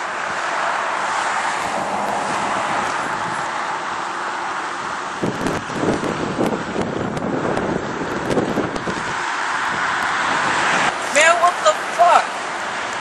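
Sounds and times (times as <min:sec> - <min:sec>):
wind buffeting microphone: 0:00.0 - 0:04.0, 0:04.7 - 0:13.0.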